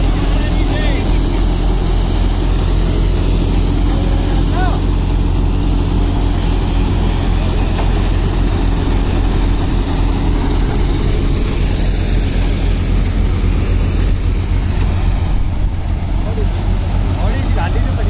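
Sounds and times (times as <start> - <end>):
thresher running: 0.0 - 18.0.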